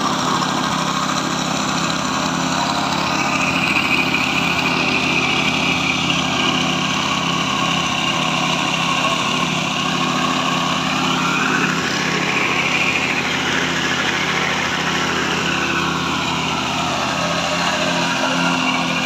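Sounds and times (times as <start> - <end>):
plate compactor running: 0.0 - 19.0.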